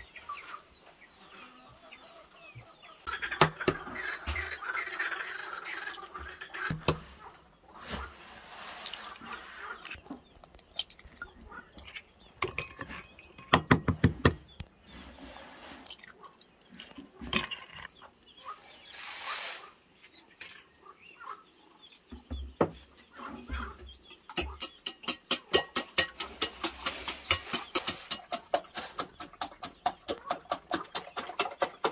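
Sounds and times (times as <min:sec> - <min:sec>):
chickens clucking: 0:00.0 - 0:13.4, 0:14.5 - 0:31.9.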